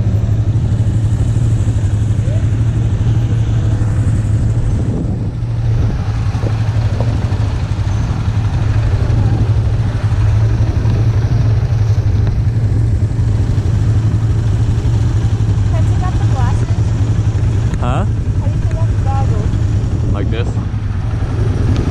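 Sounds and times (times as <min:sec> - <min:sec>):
atv engine idling: 0:00.0 - 0:21.9.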